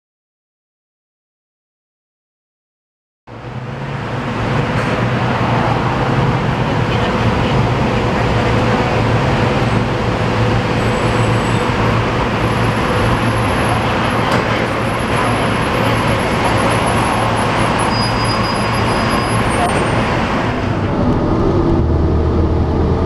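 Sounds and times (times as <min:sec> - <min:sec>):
bus engine running: 0:03.3 - 0:23.0
traffic noise: 0:03.3 - 0:23.0.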